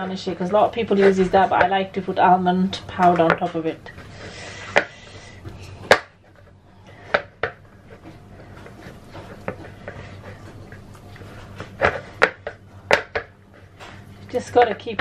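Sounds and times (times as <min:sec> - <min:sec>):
hands kneading dough: 0:00.0 - 0:15.0
low steady hum: 0:00.0 - 0:15.0.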